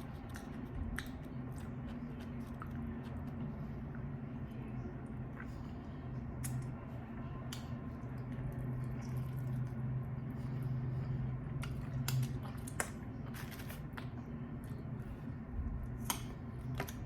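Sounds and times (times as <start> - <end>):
steady low hum: 0.0 - 17.0
wet squishing eating: 0.0 - 17.0.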